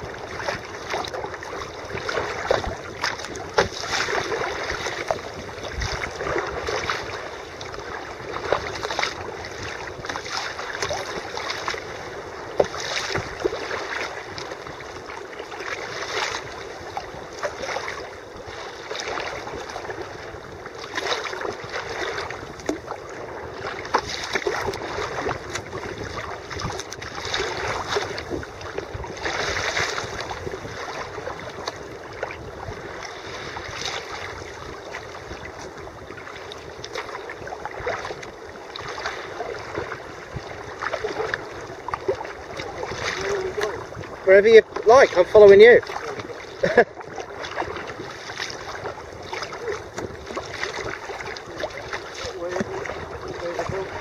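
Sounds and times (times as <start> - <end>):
water splashing against kayak hull: 0.0 - 54.0
wind on microphone: 0.0 - 54.0.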